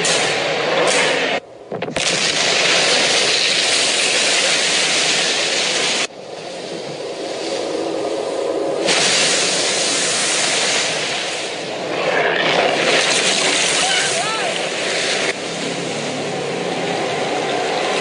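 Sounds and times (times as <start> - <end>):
loud rushing noise: 0.0 - 18.0.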